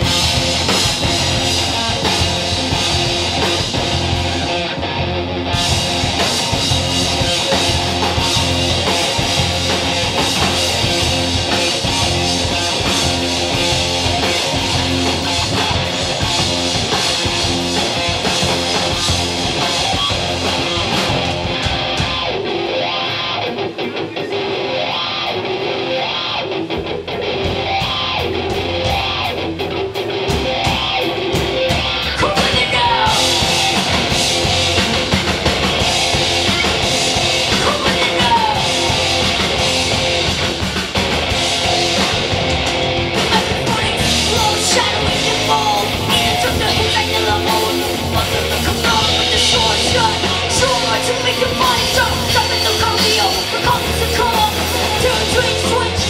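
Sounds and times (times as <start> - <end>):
bass guitar: 0.0 - 56.0
drum kit: 0.0 - 56.0
electric guitar riff: 0.0 - 56.0.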